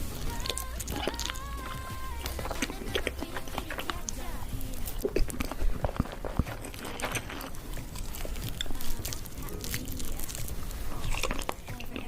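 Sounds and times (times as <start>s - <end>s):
crunchy chewing and biting: 0.0s - 12.0s.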